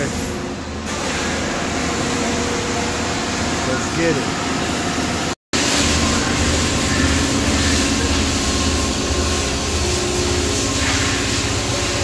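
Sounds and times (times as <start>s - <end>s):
mechanical drone with hum and hiss: 0.0s - 12.0s.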